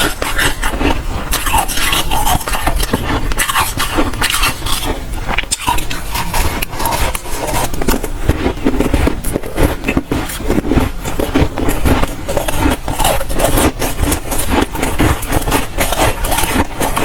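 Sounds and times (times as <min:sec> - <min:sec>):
person chewing crunchy frost: 0:00.0 - 0:17.0.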